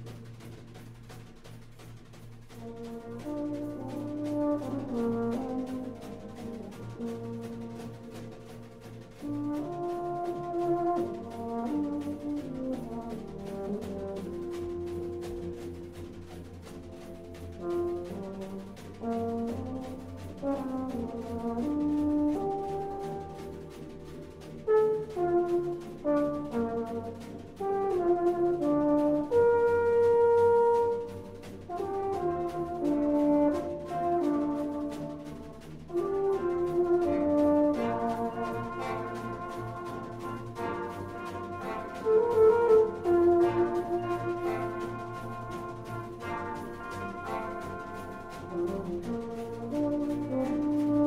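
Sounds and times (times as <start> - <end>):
brass band playing chords: 0.0 - 51.0
light percussion beat: 0.0 - 51.0.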